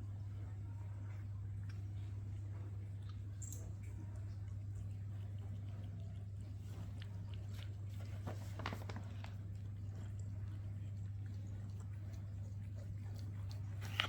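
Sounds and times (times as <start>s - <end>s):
low steady hum: 0.0s - 14.0s
cat chewing: 1.4s - 14.0s.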